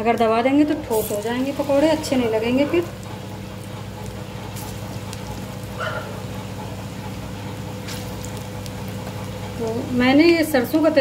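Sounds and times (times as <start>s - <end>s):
food sizzling in hot oil: 0.7s - 10.1s.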